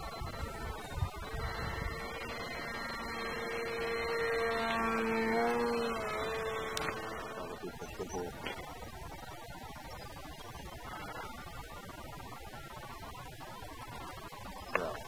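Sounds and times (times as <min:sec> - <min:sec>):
model plane motor droning overhead: 0:00.0 - 0:15.0.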